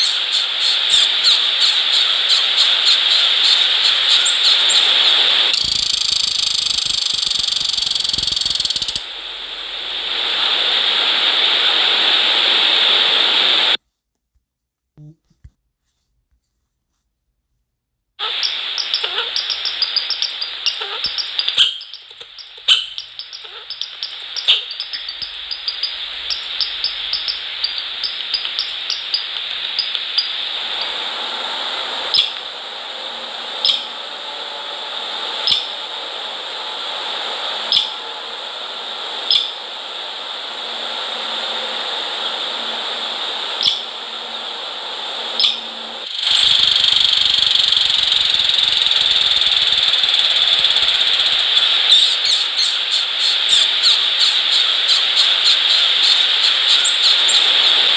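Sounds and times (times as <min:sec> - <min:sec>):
steady hiss: 0:00.0 - 0:13.8, 0:18.2 - 0:57.9.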